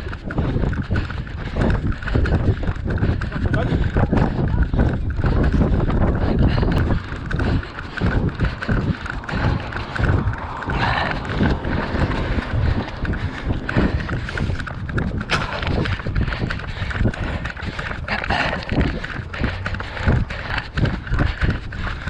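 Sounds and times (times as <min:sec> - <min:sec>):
body-worn camera jostling: 0:00.0 - 0:22.0
footfalls on road: 0:00.0 - 0:22.0
wind rumble on microphone: 0:00.0 - 0:22.0.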